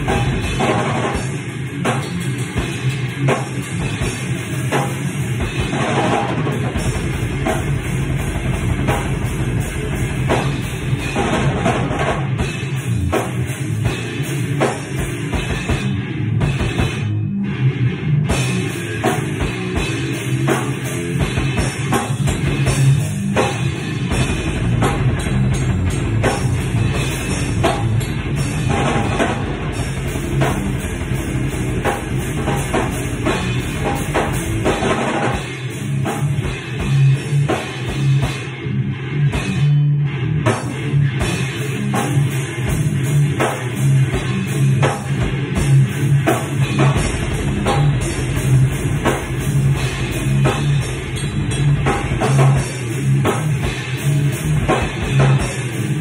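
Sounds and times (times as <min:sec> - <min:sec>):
drum kit: 0:00.0 - 0:56.0
heavy metal electric guitar riff: 0:00.0 - 0:56.0.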